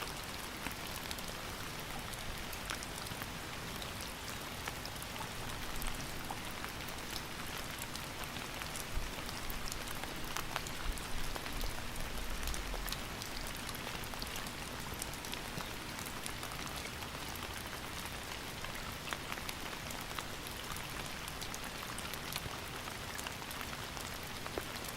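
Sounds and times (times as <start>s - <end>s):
rain drops pattering: 0.0s - 24.9s.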